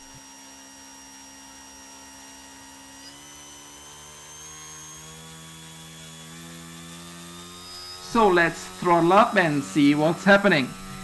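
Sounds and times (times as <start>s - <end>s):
electric motor whine: 0.0s - 11.0s.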